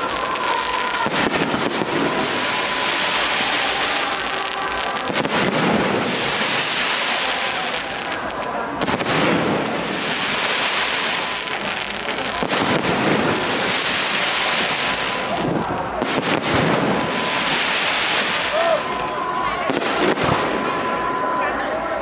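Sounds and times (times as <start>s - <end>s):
fireworks crackling: 0.0s - 21.4s
fireworks bangs: 0.0s - 21.6s.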